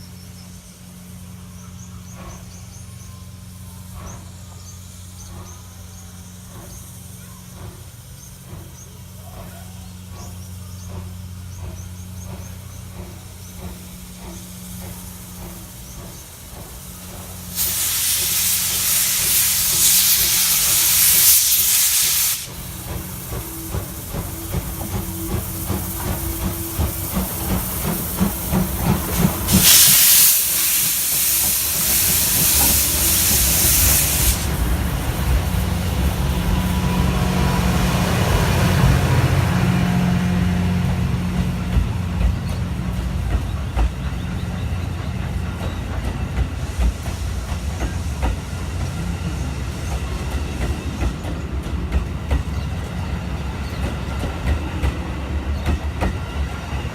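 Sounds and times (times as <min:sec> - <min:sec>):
steam venting hiss: 0:02.1 - 0:56.9.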